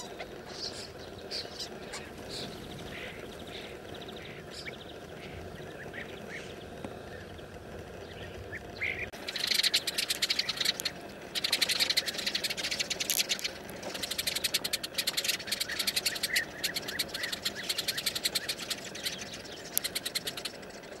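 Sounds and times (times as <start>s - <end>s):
rapid clicking bird chatter: 0.0s - 21.0s
sparrows chirping: 0.0s - 21.0s.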